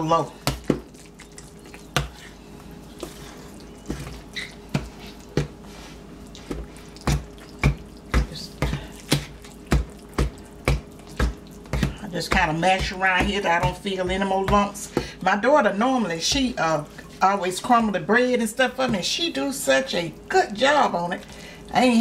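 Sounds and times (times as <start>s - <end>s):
fork mashing wet bread in metal bowl: 0.0s - 17.9s.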